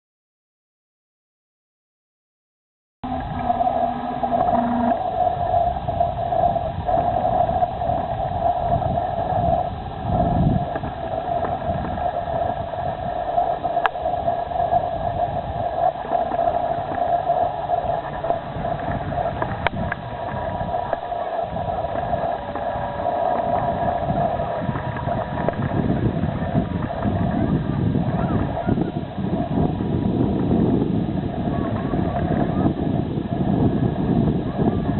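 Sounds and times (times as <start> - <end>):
model boat motor whine: 3.0 - 9.2, 10.0 - 34.9
low uneven rumble: 3.0 - 34.9.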